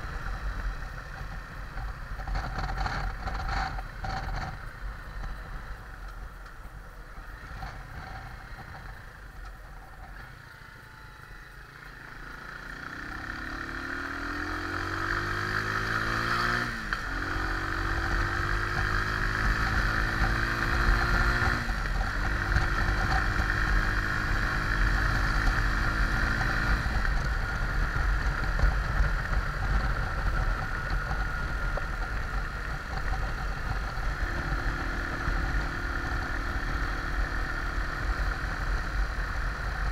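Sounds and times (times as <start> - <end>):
steady rushing noise: 0.0 - 10.7, 14.8 - 39.9
motorcycle engine accelerating: 0.0 - 39.9.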